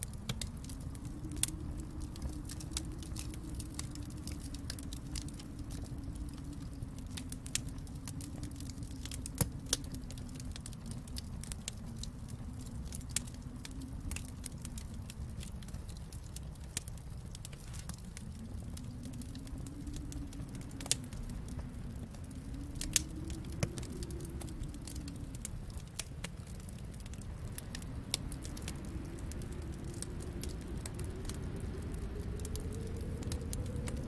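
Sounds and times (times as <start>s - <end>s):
low fire rumble: 0.0s - 34.0s
wood fire crackling: 0.0s - 34.0s.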